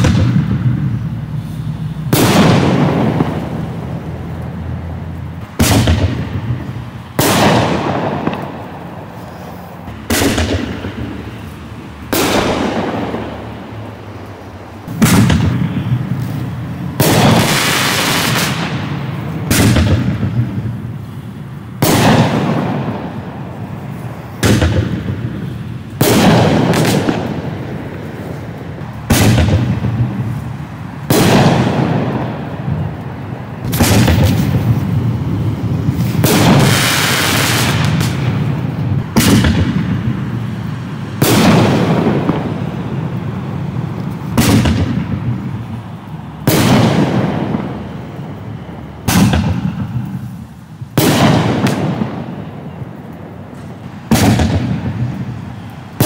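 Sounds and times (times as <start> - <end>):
firework shells banging: 0.0 - 4.6, 5.2 - 45.8, 46.4 - 56.0.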